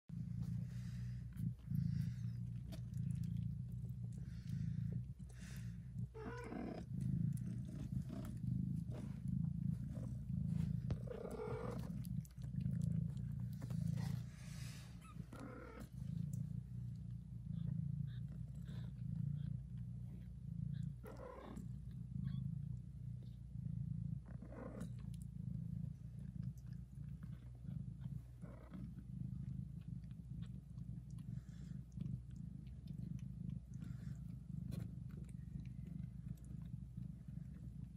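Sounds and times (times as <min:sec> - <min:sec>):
cat purring loudly: 0:00.0 - 0:37.9.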